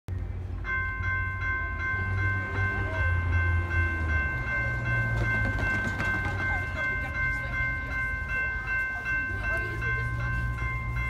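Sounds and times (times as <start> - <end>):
railroad crossing bell ringing: 0.1 - 11.0.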